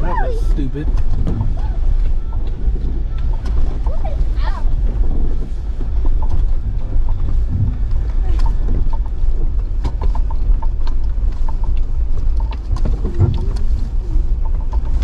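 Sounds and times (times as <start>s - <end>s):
engine and drivetrain rumble: 0.0s - 15.0s.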